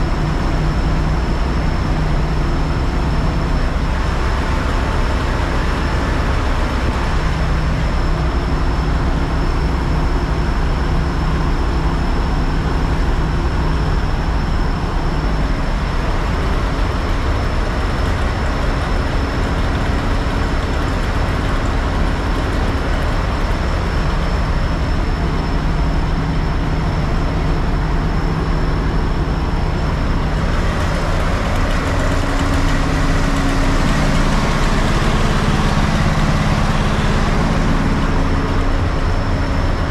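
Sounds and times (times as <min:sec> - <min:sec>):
fire truck engine running: 0:00.0 - 0:39.9.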